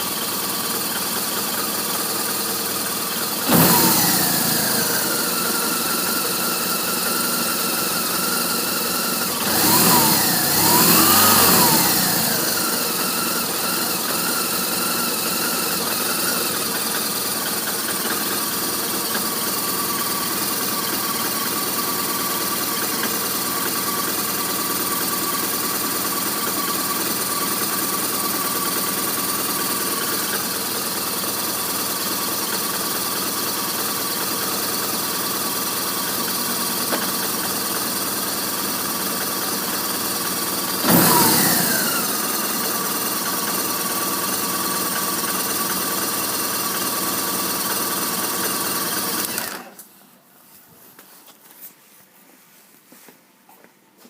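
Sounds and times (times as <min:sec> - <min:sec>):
motorcycle engine idling: 0:00.0 - 0:49.8.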